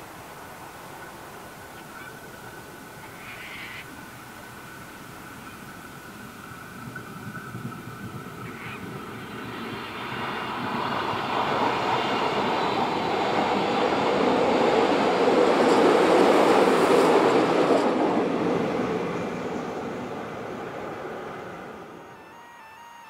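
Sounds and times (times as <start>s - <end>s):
train passing by: 0.0s - 23.0s.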